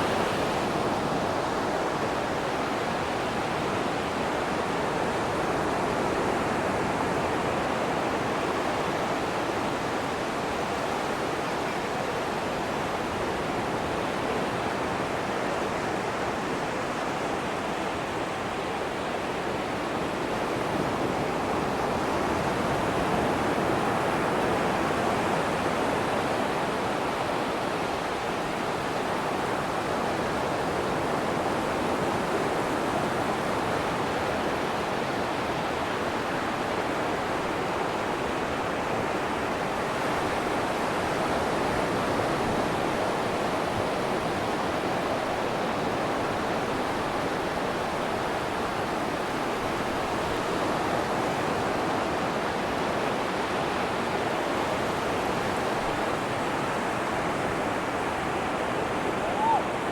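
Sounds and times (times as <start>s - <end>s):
surf waves breaking on beach: 0.0s - 59.9s.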